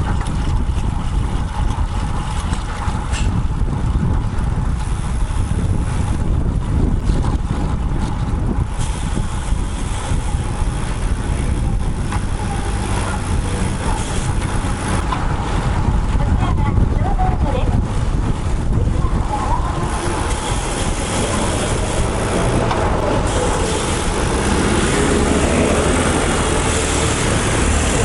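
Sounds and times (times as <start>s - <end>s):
road noise: 0.0s - 28.0s
wind rush: 0.0s - 28.0s.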